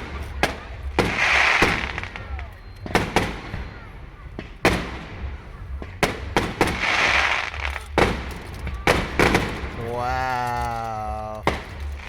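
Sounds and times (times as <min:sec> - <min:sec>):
fireworks bangs: 0:00.0 - 0:12.0
fireworks hiss: 0:00.0 - 0:12.0.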